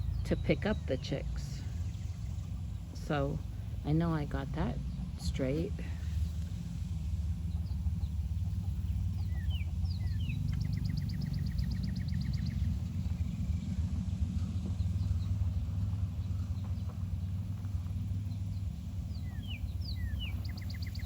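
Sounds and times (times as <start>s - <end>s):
rapid bird trill: 0.0s - 21.0s
steady low hum: 0.0s - 21.0s.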